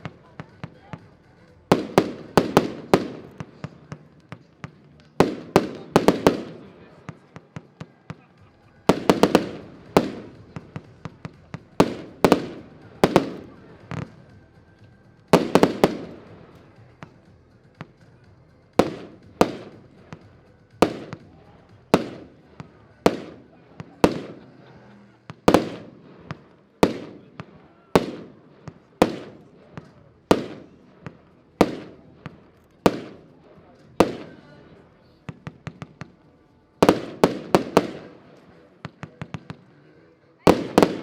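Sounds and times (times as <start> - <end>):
firework bangs with echo: 1.7 - 8.2, 8.8 - 14.4, 15.3 - 18.1, 18.8 - 24.6, 25.3 - 34.6, 35.2 - 39.7, 40.5 - 41.0.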